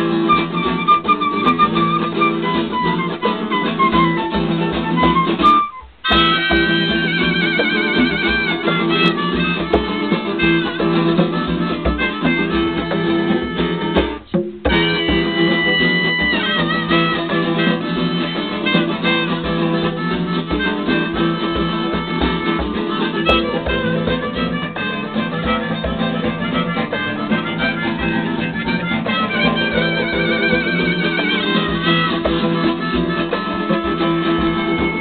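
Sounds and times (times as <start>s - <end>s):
acoustic guitar: 0.0s - 35.0s
flute with vibrato: 0.0s - 35.0s
hand drum beats: 0.0s - 35.0s.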